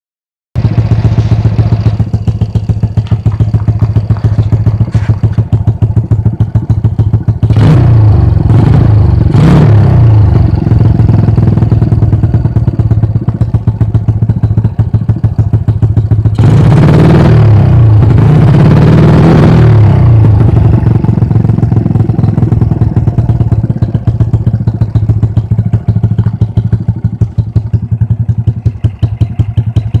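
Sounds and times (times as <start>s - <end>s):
motorcycle engine idling and revving: 0.6s - 30.0s.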